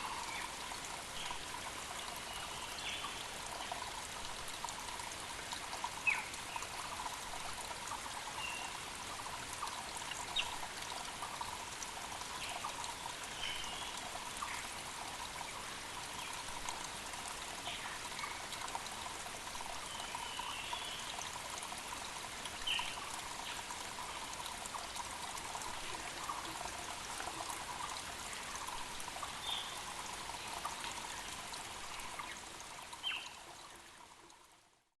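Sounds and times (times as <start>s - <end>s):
creek flowing over rocks: 0.0s - 34.9s.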